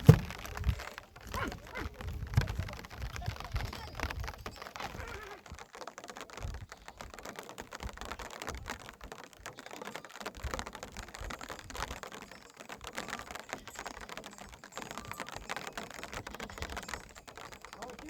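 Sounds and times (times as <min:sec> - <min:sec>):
rapid small clicks and taps: 0:00.0 - 0:18.0.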